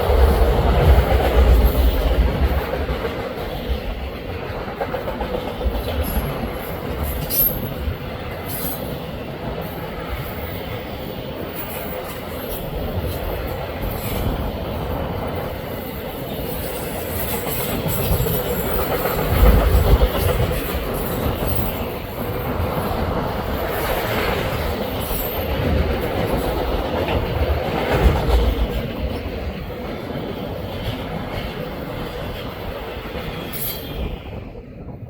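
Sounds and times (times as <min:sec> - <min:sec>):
wheels clacking over rail joints: 0:00.0 - 0:34.2
freight train rolling past: 0:00.0 - 0:35.0.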